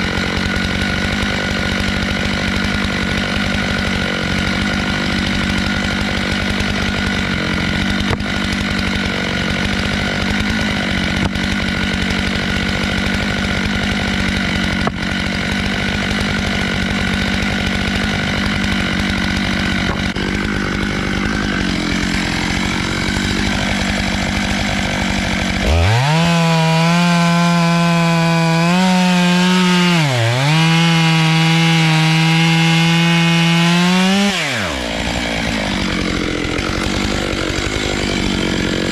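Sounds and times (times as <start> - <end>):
chainsaw cutting log: 0.0 - 38.9
chainsaw engine running: 0.0 - 38.9.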